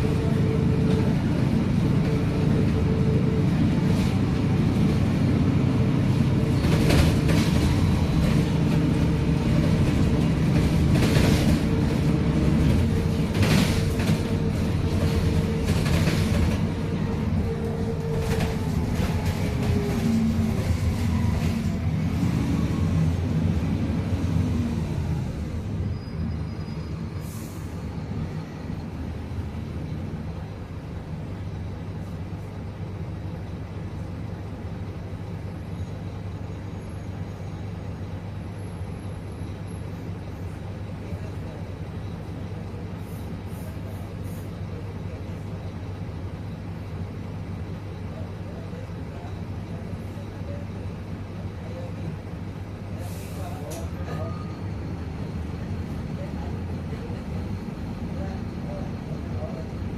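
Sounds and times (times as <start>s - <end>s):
bus diesel engine pulling away: 0.0s - 59.9s.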